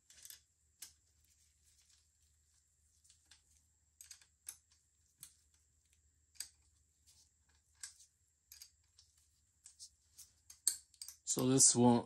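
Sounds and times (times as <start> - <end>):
faint clicks of metal parts: 0.0 - 11.4.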